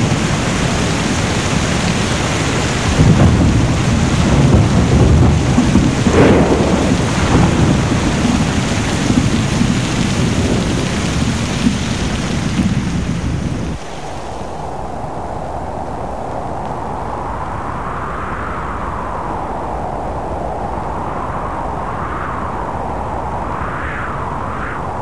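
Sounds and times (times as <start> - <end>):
heavy rain: 0.0 - 25.0
thunder rumbling: 0.0 - 25.0.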